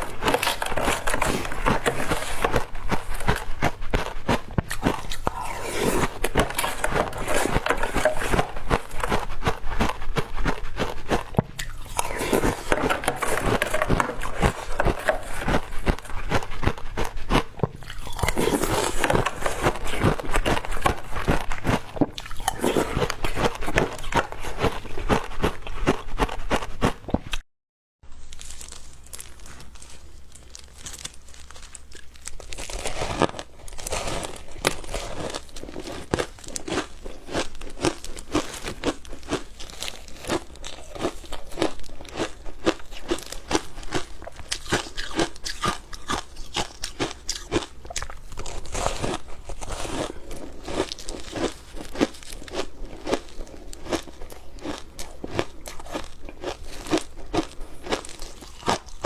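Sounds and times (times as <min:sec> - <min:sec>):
ice crunching: 0:00.0 - 0:26.0, 0:28.2 - 0:59.0.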